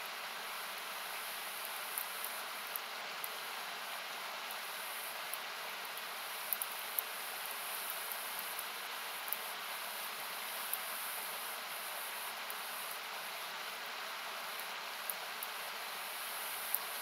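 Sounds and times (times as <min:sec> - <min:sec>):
campfire crackles: 0:00.0 - 0:17.0.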